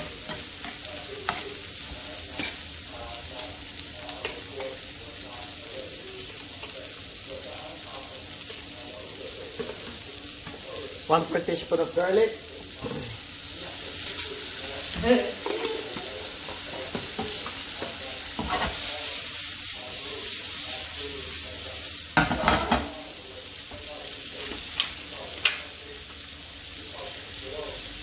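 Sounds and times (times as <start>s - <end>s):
vegetables sizzling in a frying pan: 0.0s - 28.0s.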